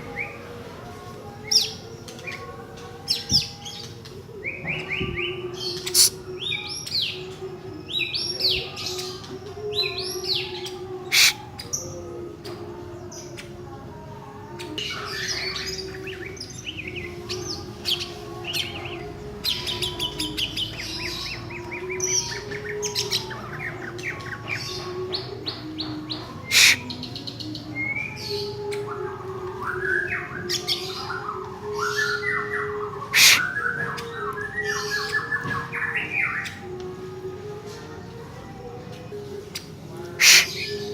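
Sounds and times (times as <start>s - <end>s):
bird singing chirps and trills: 0.0s - 40.9s.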